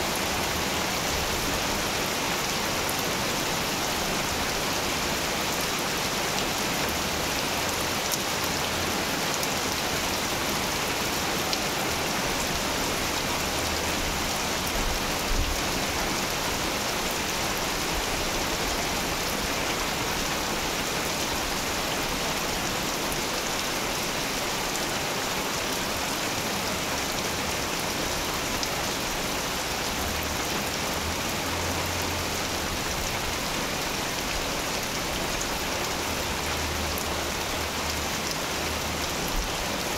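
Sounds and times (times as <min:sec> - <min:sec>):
heavy rain on plants and ground: 0:00.0 - 0:39.9.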